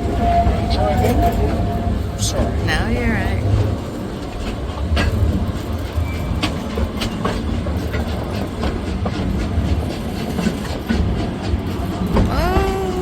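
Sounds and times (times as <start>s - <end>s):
train carriages rumbling: 0.0s - 13.0s.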